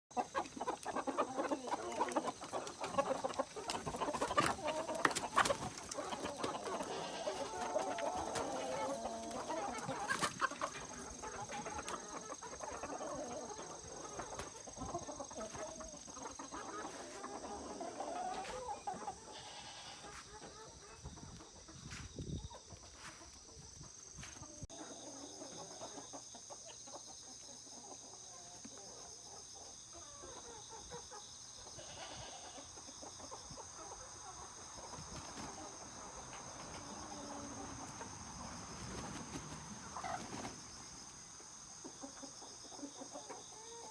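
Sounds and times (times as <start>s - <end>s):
chickens clucking: 0.1s - 43.9s.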